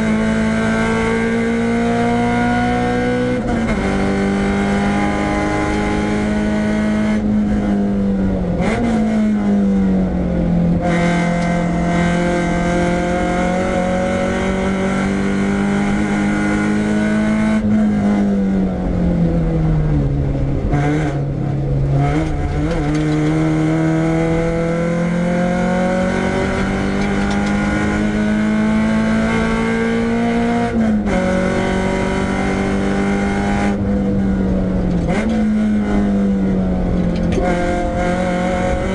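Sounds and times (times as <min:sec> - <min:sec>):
car engine running hard: 0:00.0 - 0:38.9.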